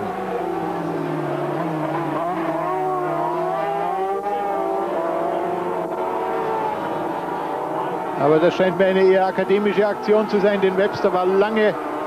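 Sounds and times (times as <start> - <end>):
two-stroke racing engines: 0.0 - 12.0.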